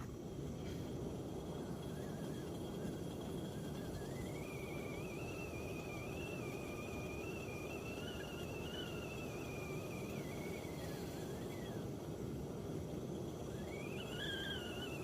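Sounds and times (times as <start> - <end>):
kettle whistling: 0.0 - 15.0.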